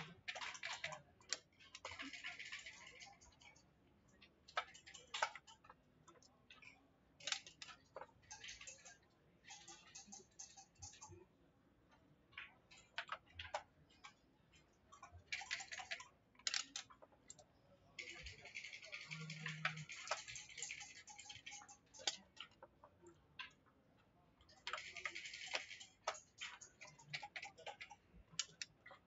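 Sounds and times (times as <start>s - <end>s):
dice and checkers clicking on wood: 0.0s - 3.6s, 4.5s - 11.2s, 12.3s - 23.6s, 24.6s - 29.0s.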